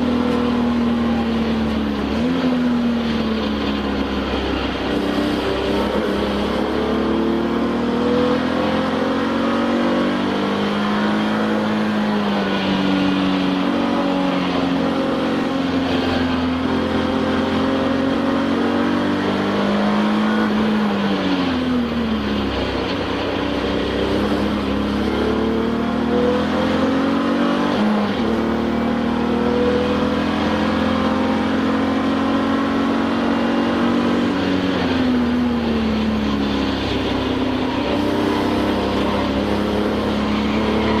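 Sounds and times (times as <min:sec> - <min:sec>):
race car engine shifting gears: 0:00.0 - 0:41.0.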